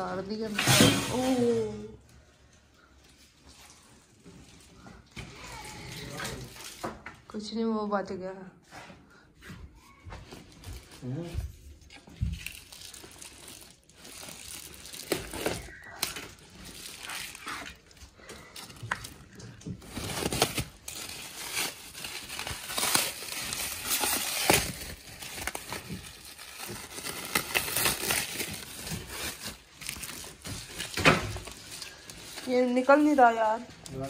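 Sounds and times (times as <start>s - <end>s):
plastic wrapping crinkling: 0.0s - 7.0s, 9.8s - 34.0s.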